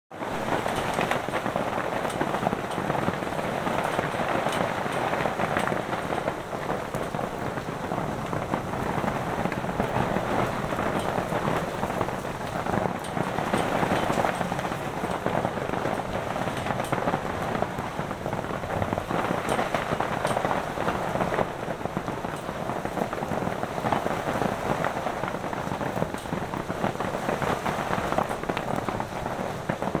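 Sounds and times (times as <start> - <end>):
heavy rain and hail on roof: 0.1 - 30.0.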